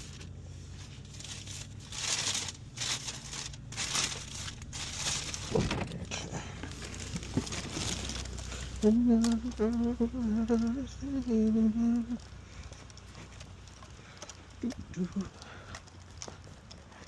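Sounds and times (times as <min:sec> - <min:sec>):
paper bag rustling: 0:00.0 - 0:16.8.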